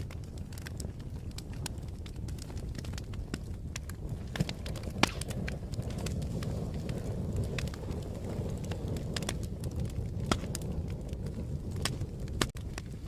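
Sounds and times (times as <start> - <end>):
fire crackling pops and snaps: 0.0 - 13.0
low rumble of burning: 0.0 - 13.0.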